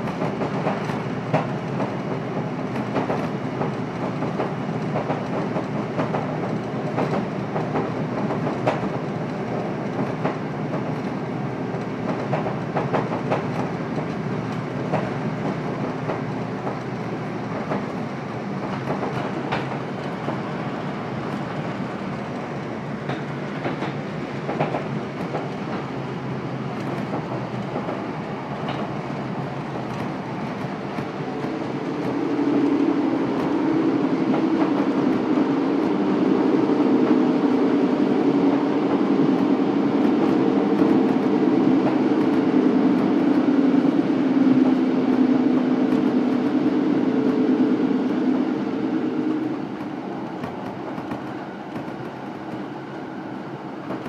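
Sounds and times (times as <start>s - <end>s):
train running noise: 0.0s - 54.0s
train wheels clicking over rails: 0.0s - 54.0s.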